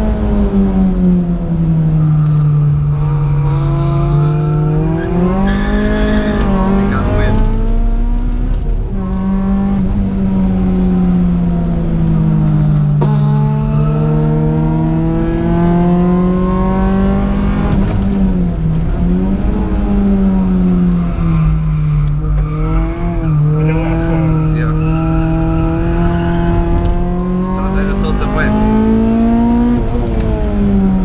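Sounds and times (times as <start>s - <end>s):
car engine revving on track: 0.0s - 31.0s.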